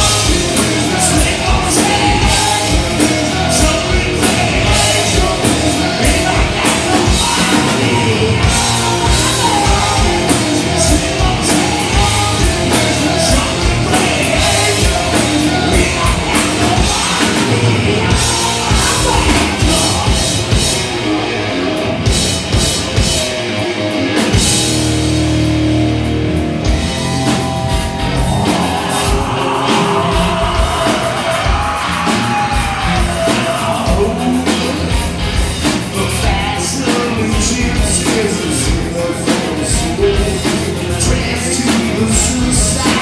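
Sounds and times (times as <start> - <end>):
drum kit beat: 0.0 - 21.2, 21.8 - 43.0
bass guitar: 0.0 - 43.0
distorted electric guitars: 0.0 - 43.0.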